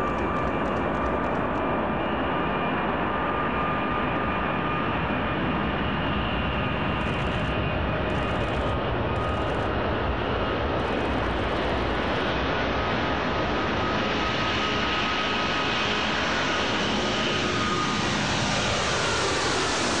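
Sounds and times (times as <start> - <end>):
airplane engines roaring: 0.0 - 20.0.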